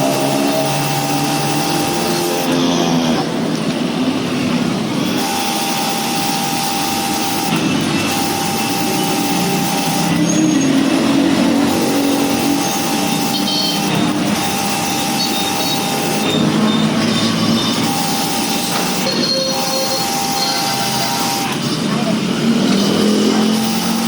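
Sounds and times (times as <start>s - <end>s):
high whine: 0.0s - 24.0s
pressure washer spraying water: 0.0s - 24.0s.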